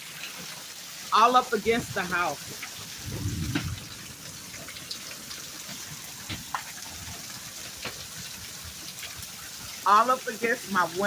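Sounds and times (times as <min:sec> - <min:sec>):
raindrops ticking: 0:00.0 - 0:11.0
steady rain hiss: 0:00.0 - 0:11.0.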